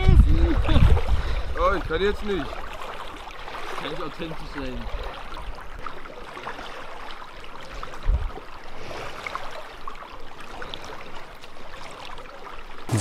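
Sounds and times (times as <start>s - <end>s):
water lapping and splashing: 0.0s - 13.0s.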